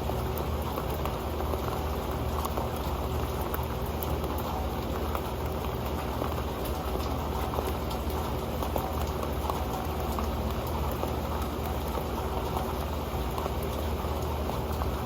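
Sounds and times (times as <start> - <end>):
rain pattering on a metal pan: 0.0 - 15.0.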